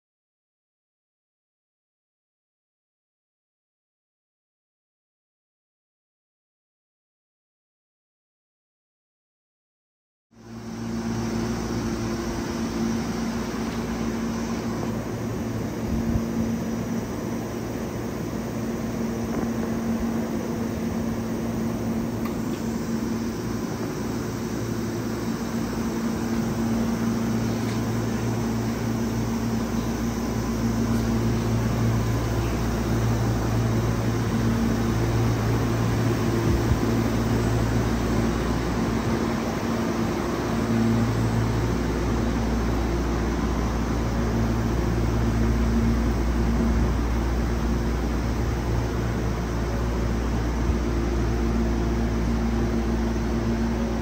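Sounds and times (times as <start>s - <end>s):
electric train hum: 10.4s - 54.0s.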